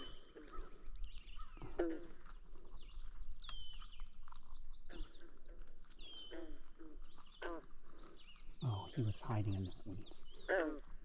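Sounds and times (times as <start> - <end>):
harsh bird calls: 0.0 - 1.8, 2.8 - 10.9.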